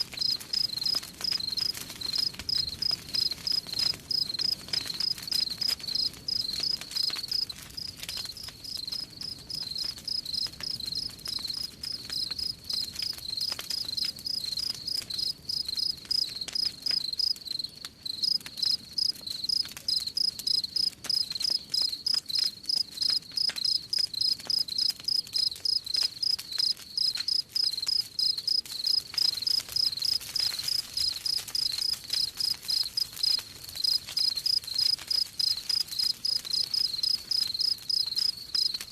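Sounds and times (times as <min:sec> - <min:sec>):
campfire crackling and popping: 0:00.0 - 0:38.9
crickets chirping: 0:00.2 - 0:05.2, 0:05.9 - 0:07.5, 0:08.2 - 0:17.6, 0:18.2 - 0:38.8.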